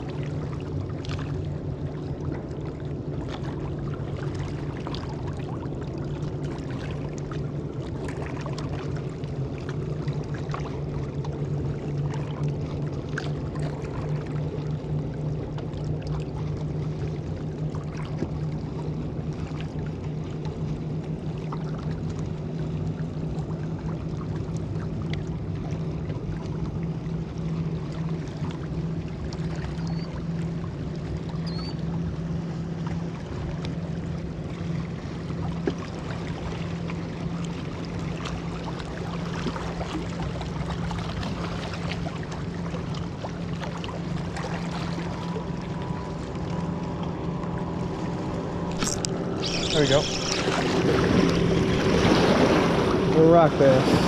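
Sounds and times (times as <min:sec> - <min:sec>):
boat engine drone: 0:00.0 - 0:54.0
water lapping and splashing: 0:00.0 - 0:54.0.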